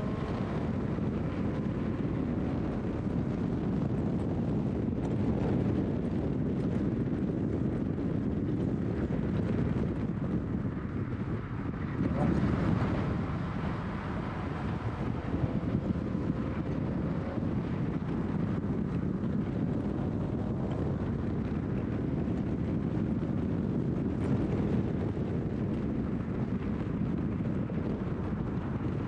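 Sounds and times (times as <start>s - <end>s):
car engine running: 0.0s - 29.0s
tyre and road noise: 0.0s - 29.0s
wind noise: 0.0s - 29.0s.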